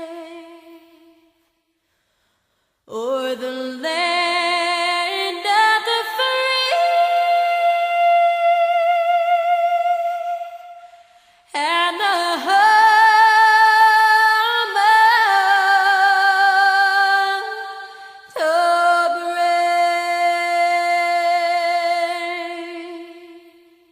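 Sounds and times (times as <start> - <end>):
woman singing unaccompanied: 0.0 - 1.2, 2.9 - 10.7, 11.5 - 23.7.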